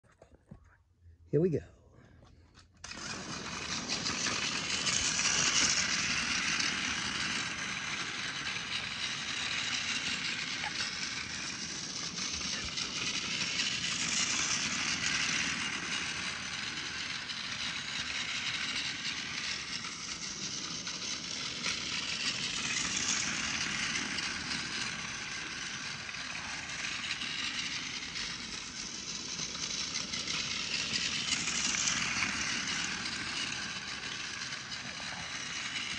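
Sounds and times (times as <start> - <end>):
toy train motor whirring: 2.6 - 35.9.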